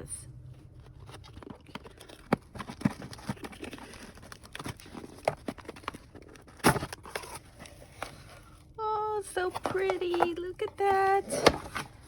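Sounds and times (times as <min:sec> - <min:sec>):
packaging rustling and crinkling: 0:00.6 - 0:12.0.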